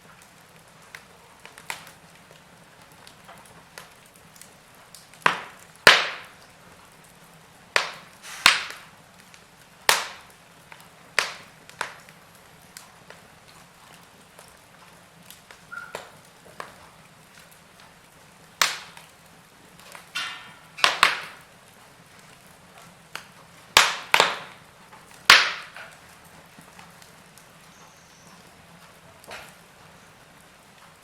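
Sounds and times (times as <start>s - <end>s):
faint steady hiss: 0.0s - 31.0s
fireplace logs crackling: 0.0s - 31.0s.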